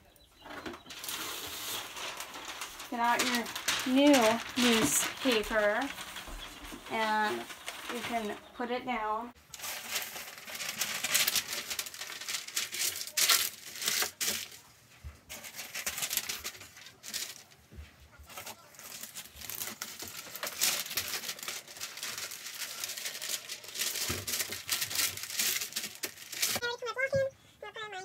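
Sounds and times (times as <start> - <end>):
newspaper rustling and crinkling: 0.4 - 26.8.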